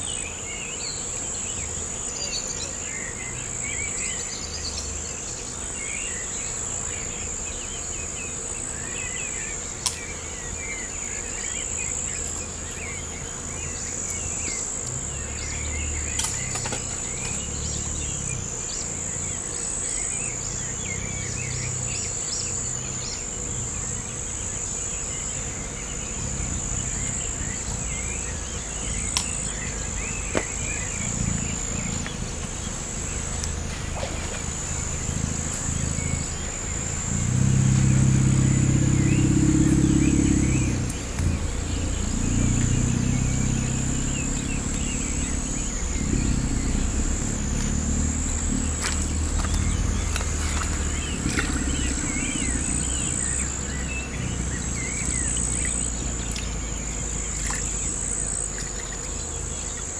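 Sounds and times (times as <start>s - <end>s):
insects droning: 0.0s - 59.9s
low engine hum: 0.0s - 59.9s.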